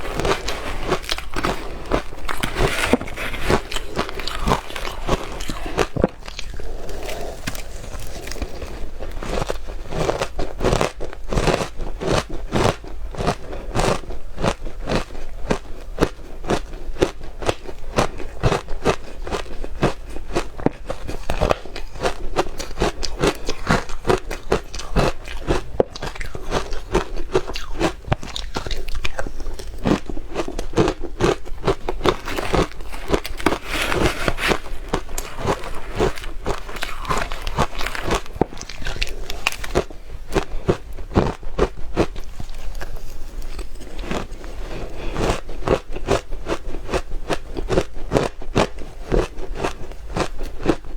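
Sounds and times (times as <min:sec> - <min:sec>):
ice crunching while chewed: 0:00.0 - 0:50.9.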